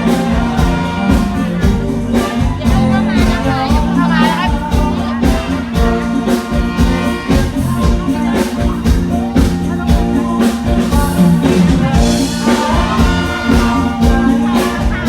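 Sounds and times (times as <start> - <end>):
live band music: 0.0 - 15.0
steady drum beat: 0.0 - 15.0.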